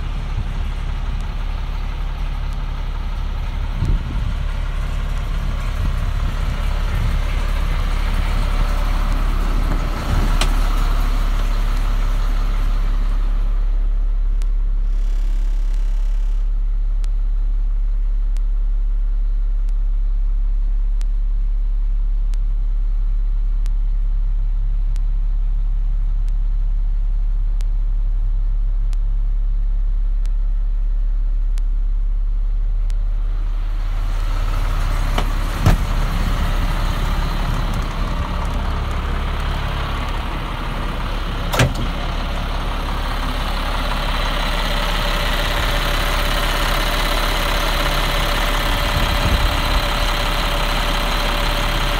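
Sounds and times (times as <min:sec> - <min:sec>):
diesel engine idling: 0:00.0 - 0:20.7, 0:30.6 - 0:51.9.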